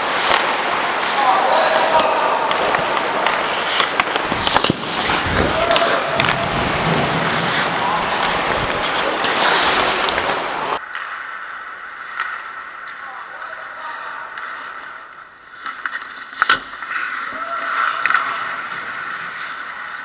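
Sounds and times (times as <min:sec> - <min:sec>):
skates scraping on ice: 0:00.0 - 0:10.8, 0:11.8 - 0:20.0
hockey sticks and puck clacking: 0:00.0 - 0:20.0.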